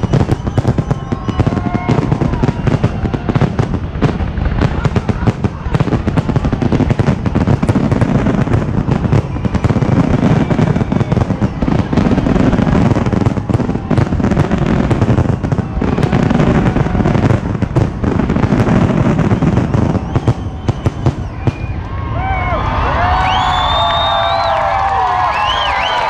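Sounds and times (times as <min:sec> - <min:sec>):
fireworks booming and cracking: 0:00.0 - 0:22.4.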